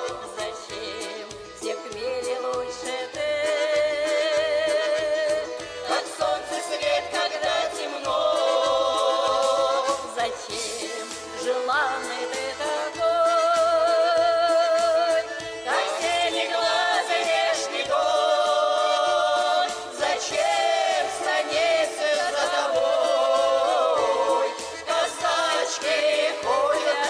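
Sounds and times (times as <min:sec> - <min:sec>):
musical accompaniment: 0:00.0 - 0:27.0
person singing with vibrato: 0:00.0 - 0:27.0.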